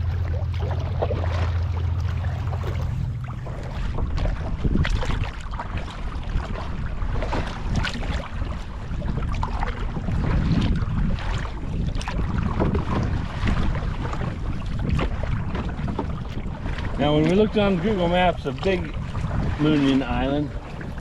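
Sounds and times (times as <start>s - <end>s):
paddle splashing in water: 0.0s - 21.0s
wind rumble on microphone: 0.0s - 21.0s.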